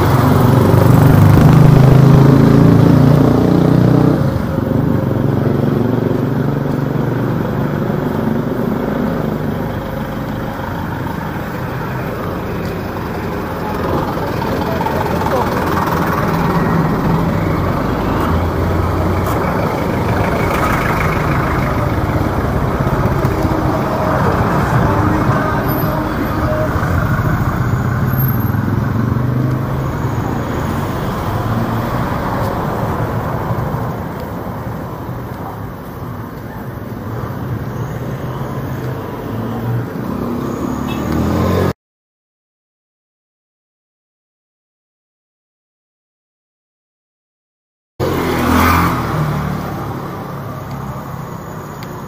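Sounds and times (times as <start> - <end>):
vehicles passing on road: 0.0 - 41.8, 48.0 - 52.0.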